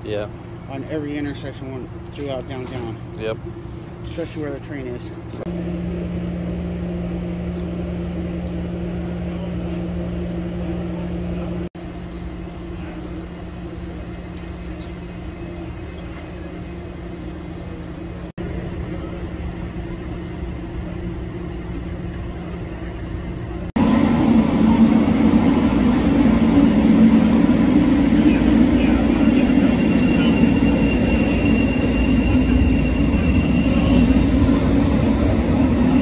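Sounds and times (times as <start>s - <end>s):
idling vehicles and machinery: 0.0s - 36.0s
light rail car: 0.0s - 36.0s.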